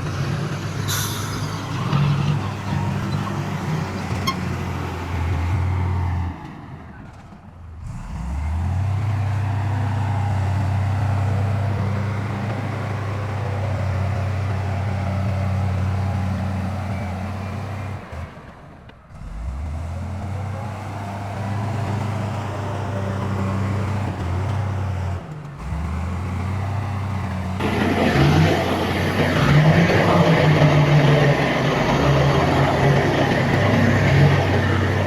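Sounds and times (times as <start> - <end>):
heavy diesel engine drone: 0.0 - 18.4, 19.1 - 35.0.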